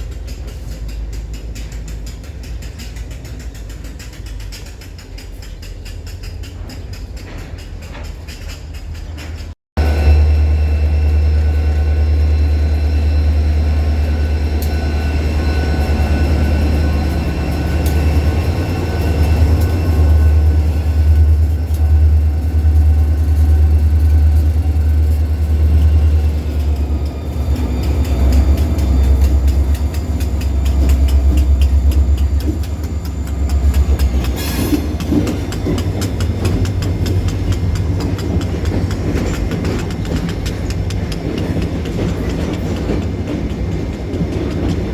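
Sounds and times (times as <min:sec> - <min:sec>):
wheels clicking over rail joints: 0:00.0 - 0:09.6, 0:11.8 - 0:44.9
diesel locomotive engine drone: 0:00.0 - 0:44.9.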